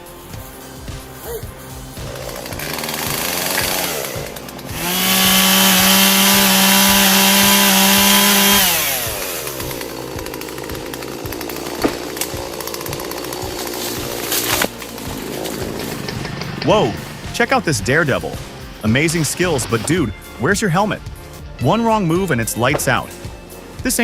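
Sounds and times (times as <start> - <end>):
chainsaw at full throttle: 0.0 - 19.6.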